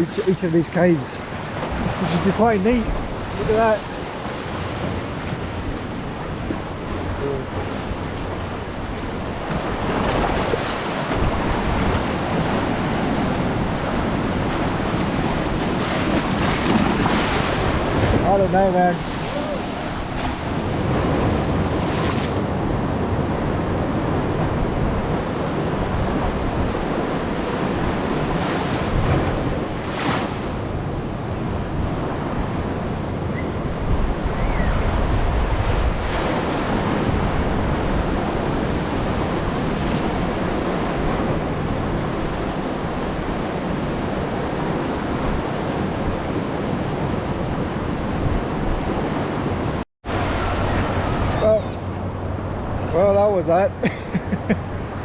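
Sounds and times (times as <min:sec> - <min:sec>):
wind rumbling on microphone: 0:00.0 - 0:53.0
ocean waves breaking in shallows: 0:00.0 - 0:55.0.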